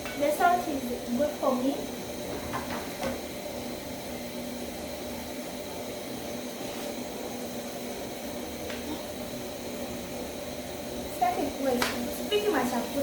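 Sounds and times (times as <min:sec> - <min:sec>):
pot cooking hiss: 0:00.0 - 0:13.0.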